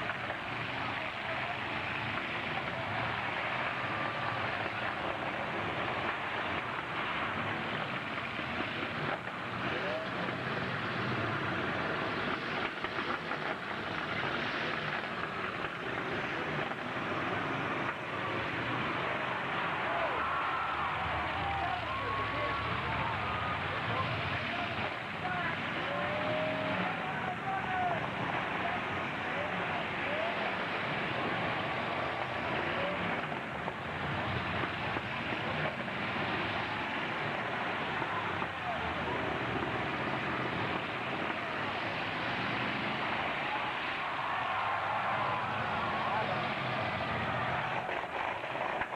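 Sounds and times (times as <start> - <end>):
truck engines running: 0.0 - 48.9.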